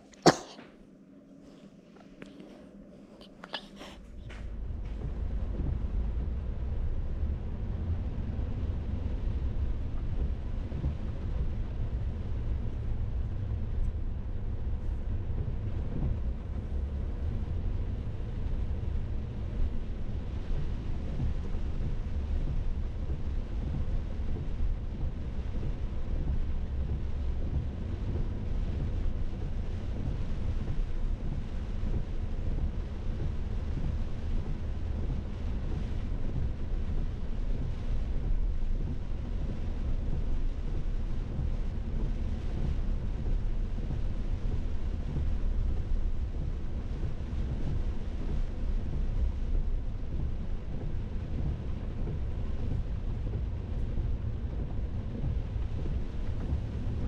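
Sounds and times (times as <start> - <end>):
rain hiss: 4.4 - 57.0.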